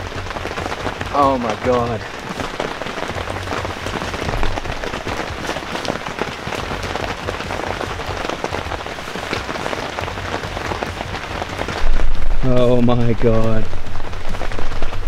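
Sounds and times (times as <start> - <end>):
heavy rain falling: 0.0 - 15.0
raindrops ticking close: 0.0 - 15.0.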